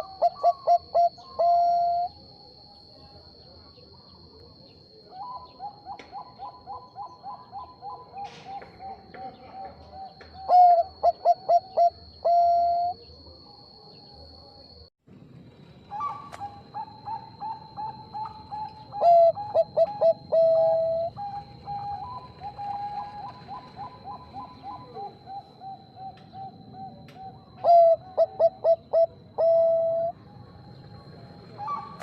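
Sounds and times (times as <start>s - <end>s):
doves cooing: 0.0s - 14.5s, 15.9s - 32.0s.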